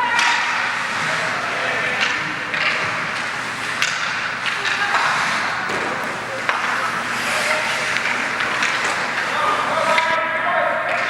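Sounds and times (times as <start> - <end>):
hockey sticks and puck clacking: 0.0 - 11.0
skates on ice: 0.0 - 11.0.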